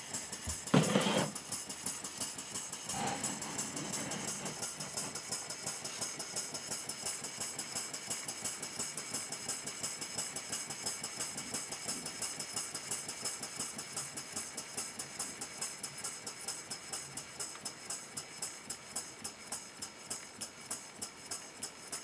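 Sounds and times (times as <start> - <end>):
model steam engine running fast: 0.0 - 22.0.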